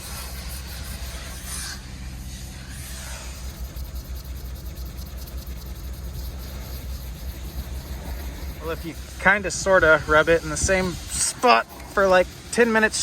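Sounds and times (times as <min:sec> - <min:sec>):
rag scrubbing painted panel: 0:00.0 - 0:01.8, 0:02.6 - 0:13.0
steady low rumble: 0:00.0 - 0:13.0.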